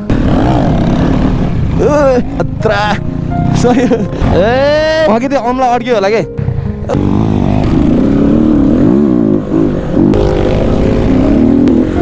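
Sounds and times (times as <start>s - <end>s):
motorcycle engine revving: 0.0s - 5.0s, 6.4s - 12.0s.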